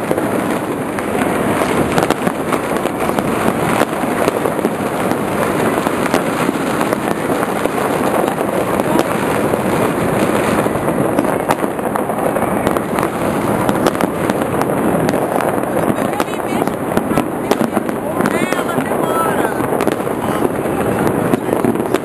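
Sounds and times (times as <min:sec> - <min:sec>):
fireworks barrage cracking: 0:00.0 - 0:22.0.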